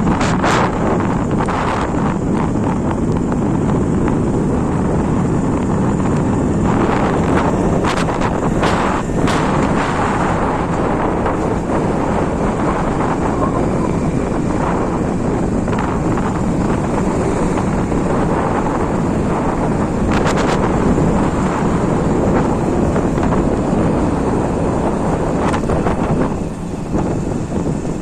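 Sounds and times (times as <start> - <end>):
bike running noise: 0.0 - 28.0
wind buffeting microphone: 0.0 - 28.0.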